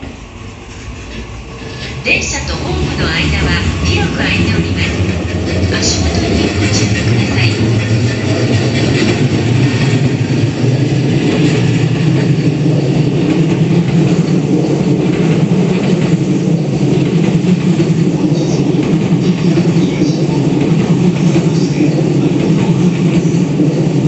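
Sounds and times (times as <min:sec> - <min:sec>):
electric train running past: 0:00.0 - 0:24.0.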